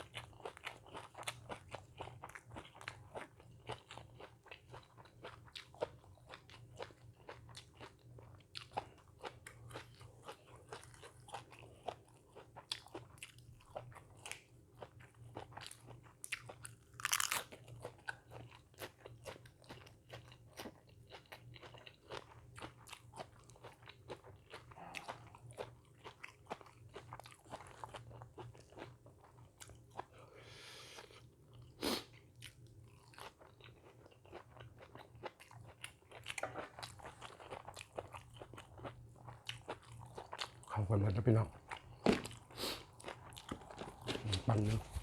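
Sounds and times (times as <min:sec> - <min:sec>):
person chewing crunchy food: 0:00.0 - 0:45.0.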